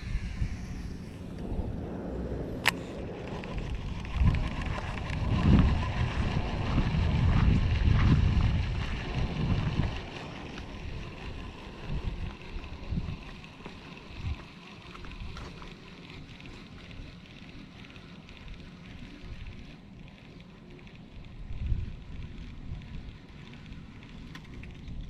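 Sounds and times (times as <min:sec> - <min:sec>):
wind buffeting microphone: 0:00.0 - 0:20.2, 0:20.8 - 0:25.0
steady outdoor hiss: 0:00.0 - 0:25.0.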